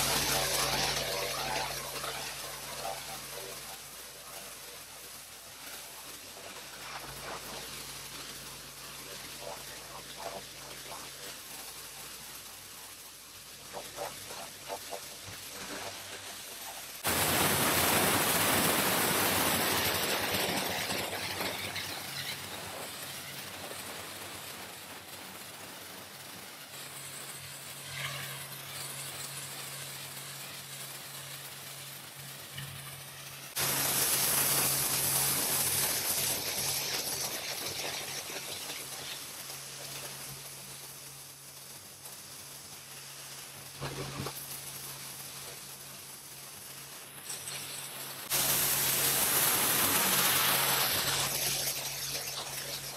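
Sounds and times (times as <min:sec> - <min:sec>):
pressure washer jet spraying ground: 0:00.0 - 0:52.9.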